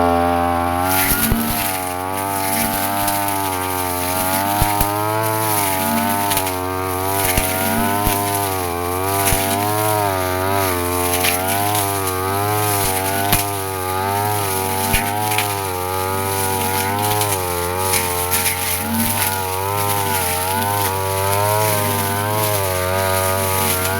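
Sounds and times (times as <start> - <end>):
brush cutter cutting grass: 0.0 - 23.9.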